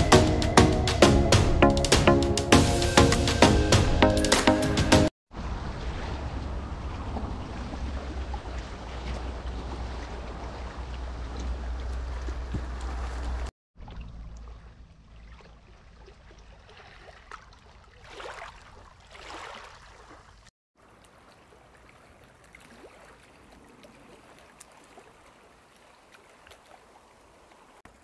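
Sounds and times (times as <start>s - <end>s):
washes of water: 5.3s - 28.0s
water lapping at shore: 5.3s - 28.0s.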